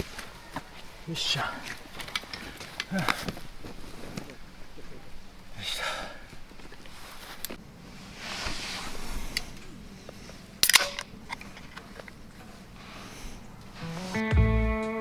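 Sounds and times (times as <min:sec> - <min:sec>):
soft rustle of gear: 0:00.0 - 0:05.5, 0:06.3 - 0:10.6, 0:11.2 - 0:14.2.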